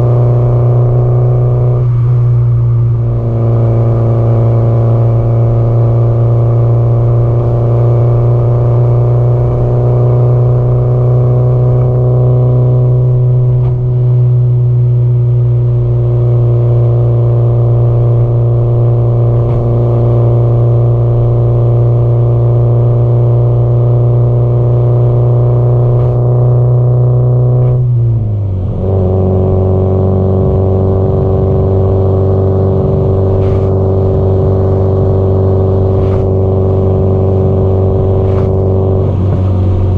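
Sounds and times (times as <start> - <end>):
car engine and exhaust cruising: 0.0 - 39.9.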